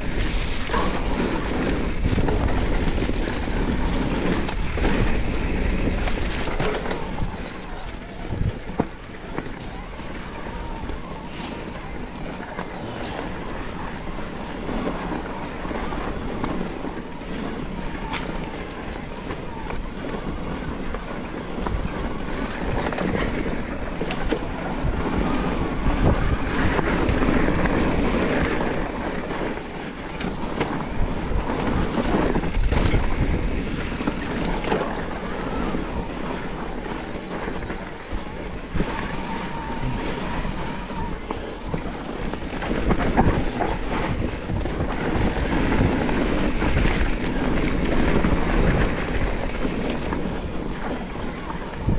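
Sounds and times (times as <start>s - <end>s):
bike tyre noise on dirt trail: 0.0s - 51.9s.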